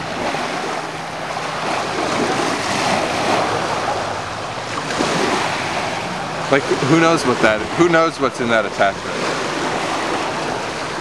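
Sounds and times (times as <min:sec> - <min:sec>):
small waves washing ashore: 0:00.0 - 0:11.0
wind buffeting microphone: 0:00.0 - 0:11.0.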